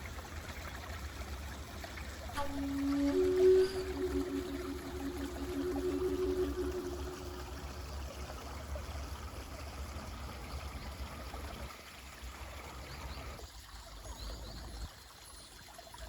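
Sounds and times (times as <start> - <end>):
mountain stream running: 0.0 - 16.0.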